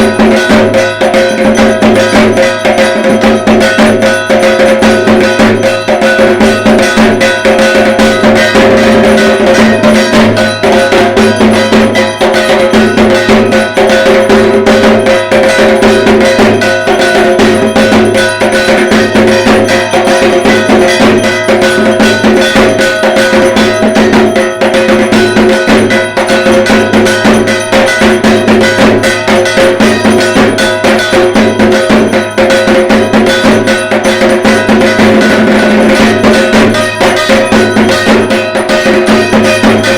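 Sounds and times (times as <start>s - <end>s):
barrel drum beaten fast: 0.0s - 39.9s
metallic ringing: 0.0s - 39.9s.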